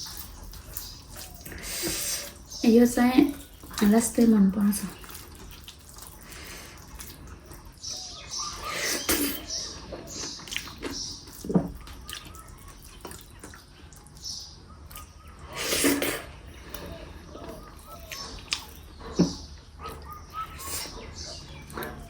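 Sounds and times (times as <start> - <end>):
wet chewing and mouth smacks: 0.0 - 2.6, 4.7 - 22.0.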